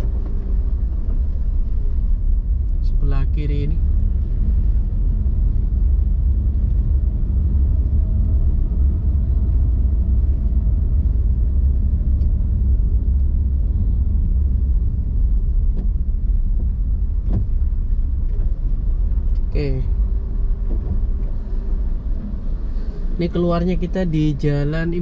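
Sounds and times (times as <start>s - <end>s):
car interior engine and tyre rumble: 0.0s - 25.0s.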